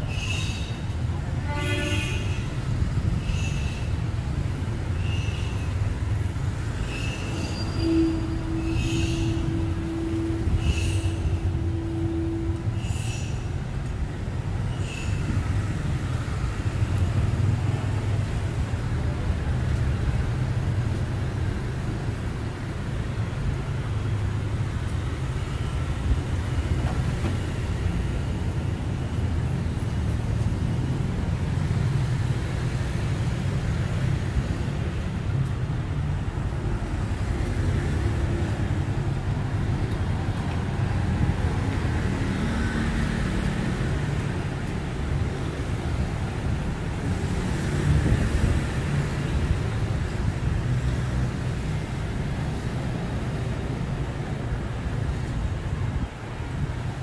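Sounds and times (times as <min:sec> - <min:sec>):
city traffic rumble: 0:00.0 - 0:57.0.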